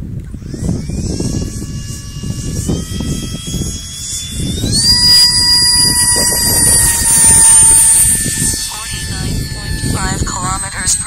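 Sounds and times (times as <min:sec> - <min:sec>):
jet engine whining: 0:00.0 - 0:11.0.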